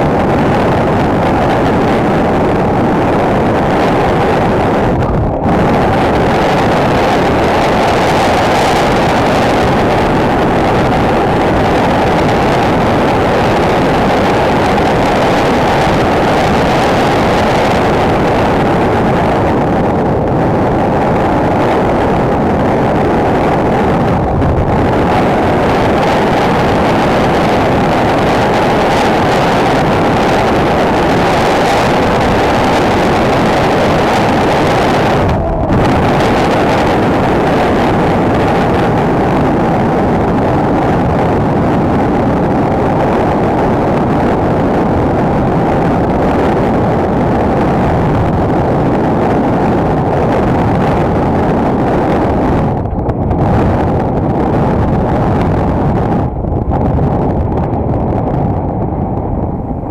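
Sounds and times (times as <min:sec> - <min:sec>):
motorcycle engine at speed: 0:00.0 - 0:59.9
wind rush on microphone: 0:00.0 - 0:59.9.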